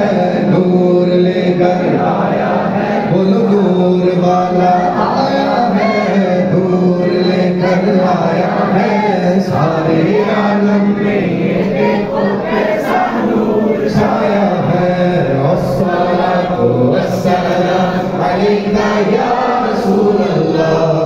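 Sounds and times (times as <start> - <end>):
men singing in unison: 0.0 - 21.0.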